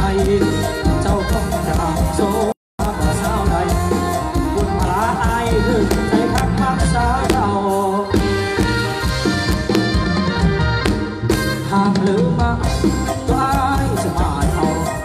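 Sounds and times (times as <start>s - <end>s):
live band music over loudspeakers: 0.0s - 15.0s.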